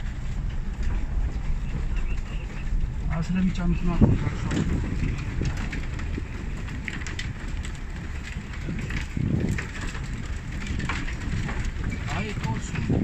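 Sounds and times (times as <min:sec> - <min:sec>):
vehicle engine and tyres rumbling: 0:00.0 - 0:13.0
wind noise: 0:00.0 - 0:13.0.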